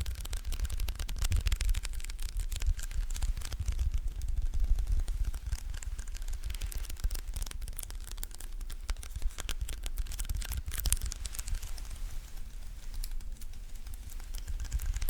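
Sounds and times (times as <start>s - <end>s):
fingers peeling off sticky surface: 0.0s - 15.0s.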